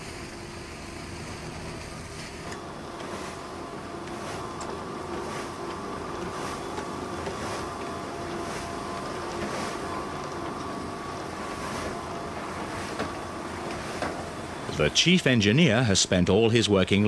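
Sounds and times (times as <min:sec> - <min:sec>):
machine droning and hissing: 0:00.0 - 0:17.0.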